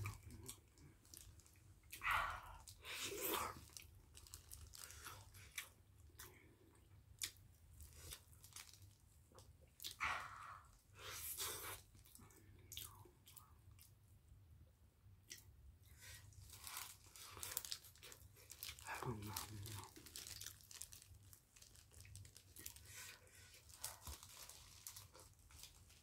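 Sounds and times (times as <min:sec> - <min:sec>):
person chewing soft food: 0:00.0 - 0:14.1, 0:15.2 - 0:26.0.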